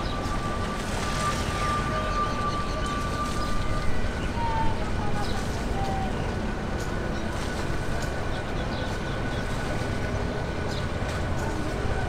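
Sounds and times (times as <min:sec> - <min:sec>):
jet engine whine: 0:00.0 - 0:12.0.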